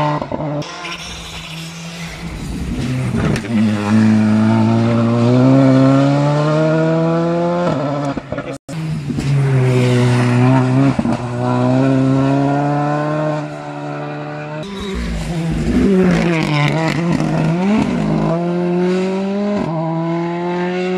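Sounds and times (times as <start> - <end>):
rally car engine at high revs: 0.0 - 20.9
car engine revving through gear changes: 2.7 - 20.9.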